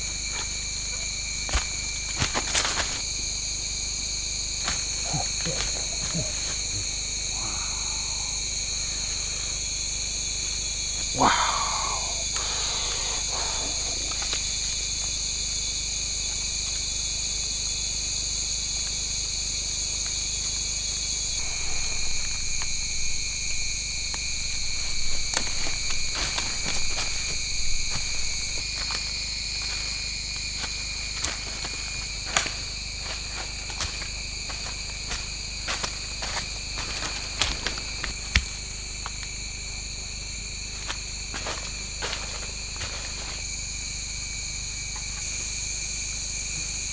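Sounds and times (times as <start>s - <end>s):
forest insects chorus: 0.0s - 46.9s.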